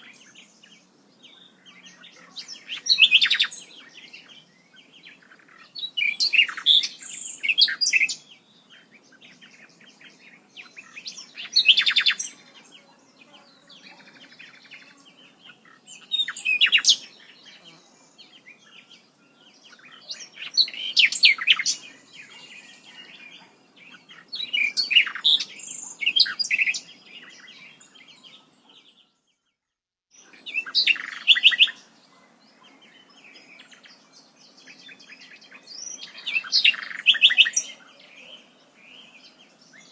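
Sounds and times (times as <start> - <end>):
songbird singing high chirps: 0.0 - 39.9.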